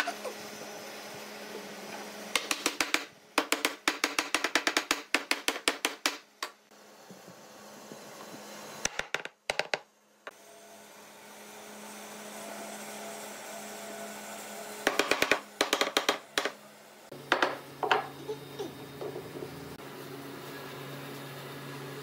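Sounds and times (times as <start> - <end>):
workshop hum: 0.0 - 22.0.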